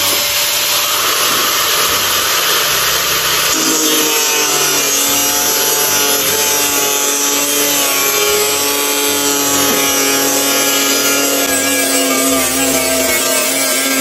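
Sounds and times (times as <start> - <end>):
cutting hiss: 0.0 - 14.0
power tool motor whine: 0.0 - 14.0.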